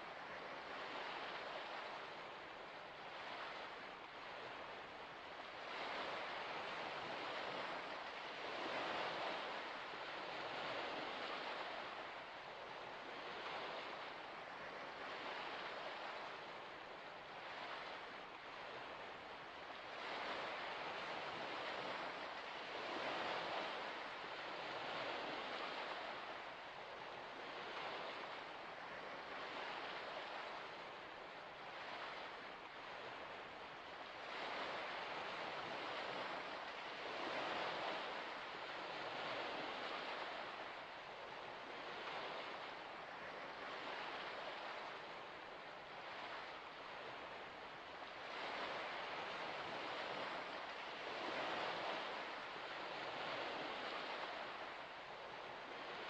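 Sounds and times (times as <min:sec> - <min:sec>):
small waves lapping: 0:00.0 - 0:56.0.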